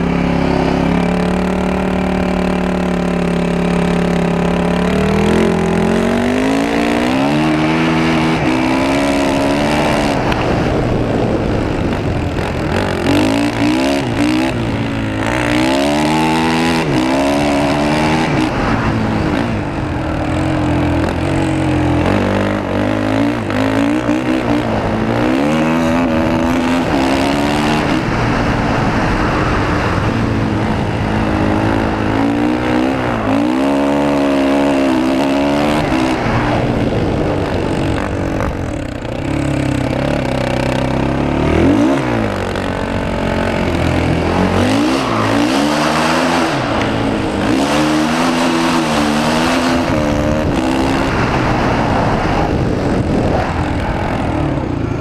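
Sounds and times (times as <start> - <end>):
vehicle engine revving: 0.0 - 55.0
wind on microphone: 5.4 - 55.0.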